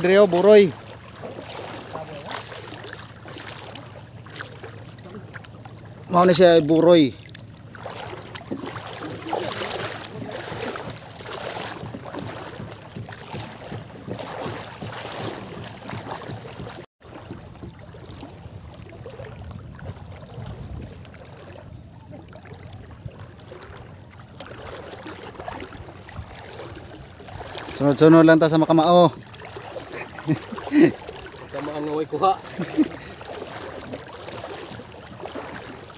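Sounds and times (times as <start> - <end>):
seawater sloshing around legs: 0.0 - 35.9.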